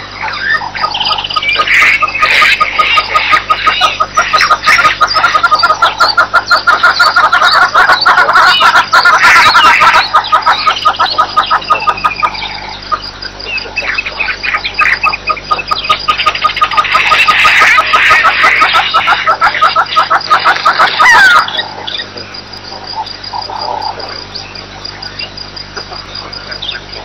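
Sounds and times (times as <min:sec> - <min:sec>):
chorus of wild birds calling: 0:00.0 - 0:27.0.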